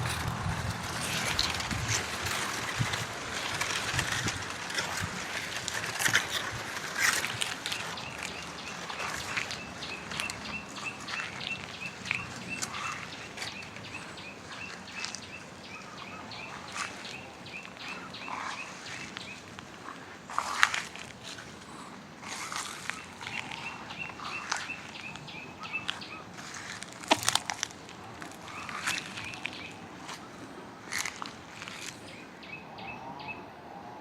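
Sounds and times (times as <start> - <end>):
footsteps crunching on dry leaves: 0.0 - 32.2.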